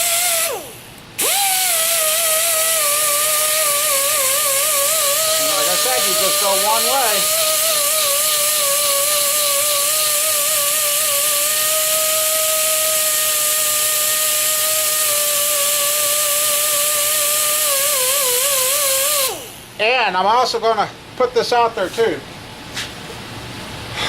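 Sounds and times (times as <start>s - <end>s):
electric sander grinding metal: 0.0s - 19.6s.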